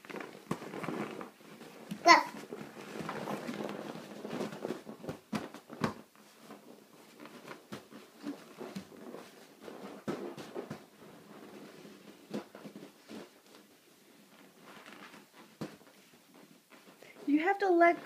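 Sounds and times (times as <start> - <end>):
soft pats and thumps on fabric ball: 0.0 - 17.3.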